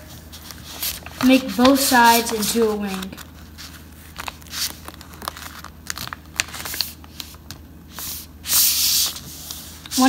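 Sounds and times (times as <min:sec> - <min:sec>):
paper being folded and creased: 0:00.0 - 0:10.0.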